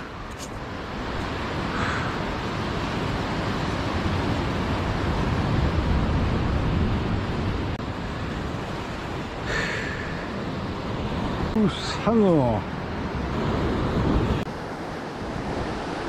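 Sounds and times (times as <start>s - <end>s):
ocean surf on rocks: 0.0s - 16.0s.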